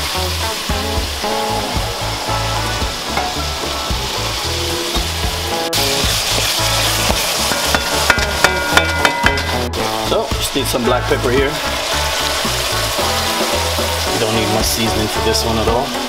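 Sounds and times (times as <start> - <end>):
background music with deep bass: 0.0 - 16.0
food sizzling in a pot: 0.0 - 16.0.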